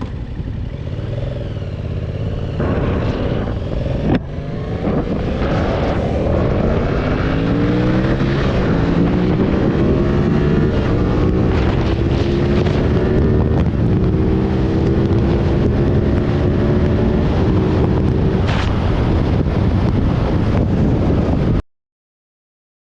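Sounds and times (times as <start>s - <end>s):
vehicle engine accelerating: 0.0s - 21.6s
wind noise: 0.0s - 21.6s.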